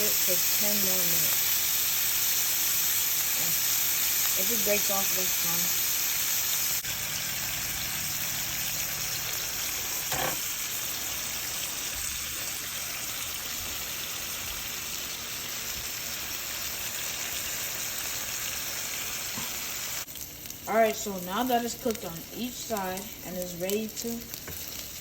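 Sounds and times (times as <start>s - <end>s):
burger patties sizzling in a pan: 0.0s - 25.0s.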